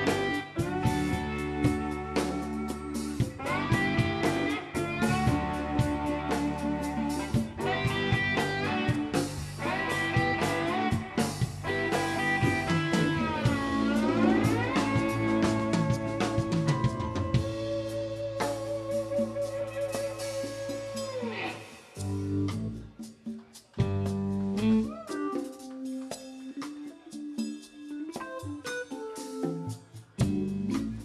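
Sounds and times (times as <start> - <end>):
live blues rock band playing: 0.0 - 31.0.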